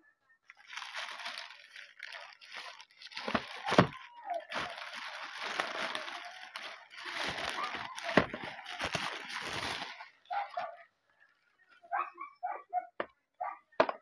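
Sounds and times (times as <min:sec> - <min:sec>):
plastic bag crinkling: 0:00.5 - 0:11.7.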